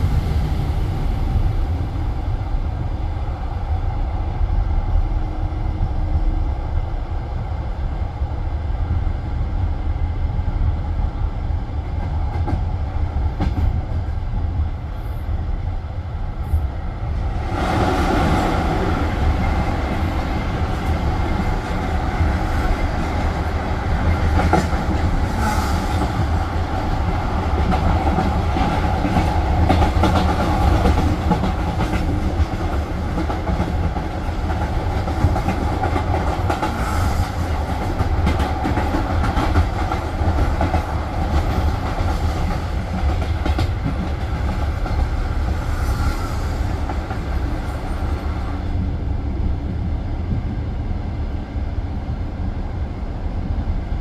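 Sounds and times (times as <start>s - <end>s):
train carriage rumbling: 0.0s - 54.0s.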